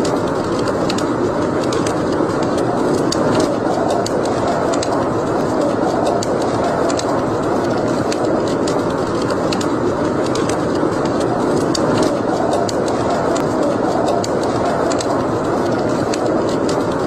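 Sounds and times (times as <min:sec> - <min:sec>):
wood fire burning: 0:00.0 - 0:17.0.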